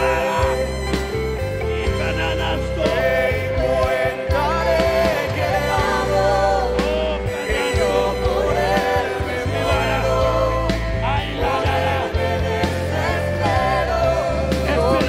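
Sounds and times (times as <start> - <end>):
instrumental backing: 0.0 - 15.0
person singing: 0.0 - 15.0.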